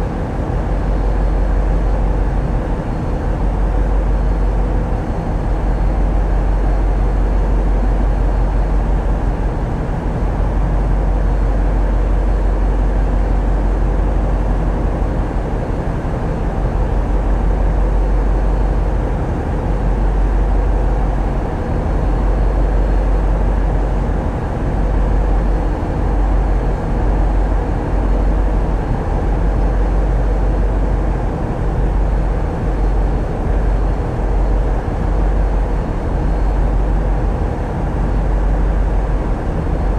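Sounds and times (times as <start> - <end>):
boat diesel engine drone: 0.0 - 39.9.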